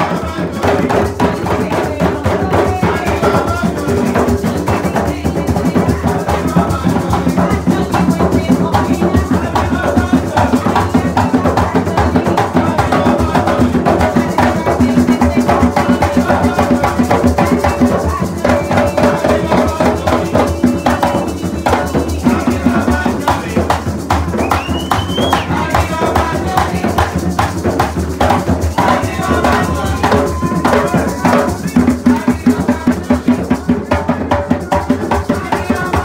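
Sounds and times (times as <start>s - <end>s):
hand-played barrel drums: 0.0s - 36.0s
shaken rattle: 0.0s - 36.0s.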